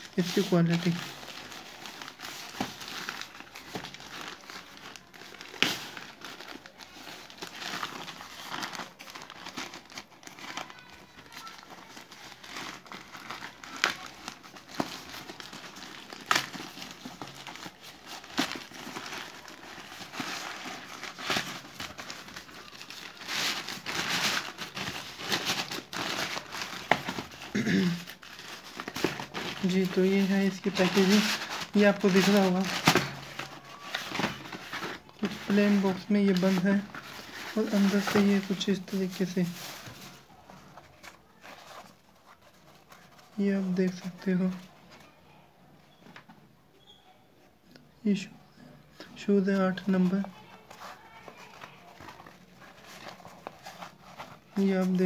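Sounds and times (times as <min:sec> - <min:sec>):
plastic mailer bag crinkling: 0:00.0 - 0:44.8, 0:49.5 - 0:55.0.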